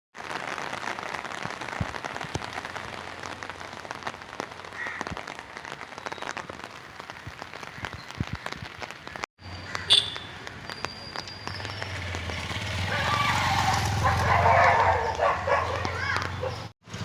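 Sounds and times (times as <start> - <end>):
rain falling: 0.2 - 17.0.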